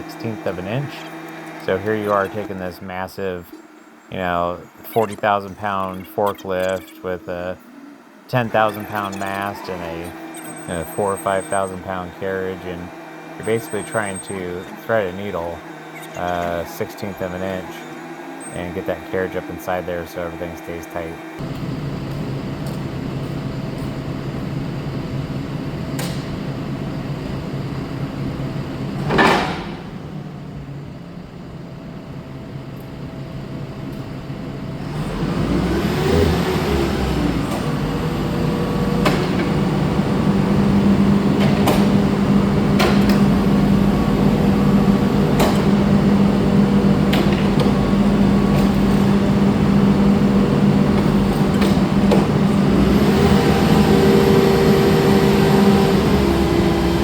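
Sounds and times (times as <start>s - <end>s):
forklift engine idling and revving: 0.0s - 5.9s, 6.6s - 57.0s.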